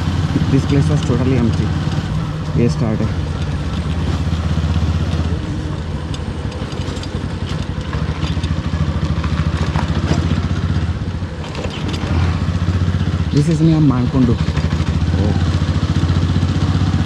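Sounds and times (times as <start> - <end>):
motorcycle engine running: 0.0 - 17.0
riding noise: 0.0 - 17.0.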